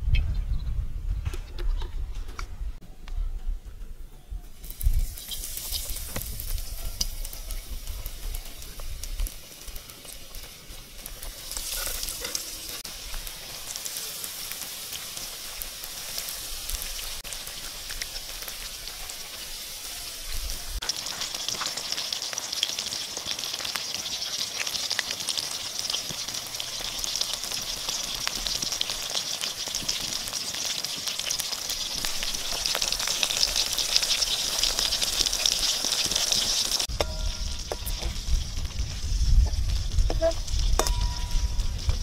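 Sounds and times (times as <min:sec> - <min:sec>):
chicken deep-frying in oil: 0:04.5 - 0:42.0.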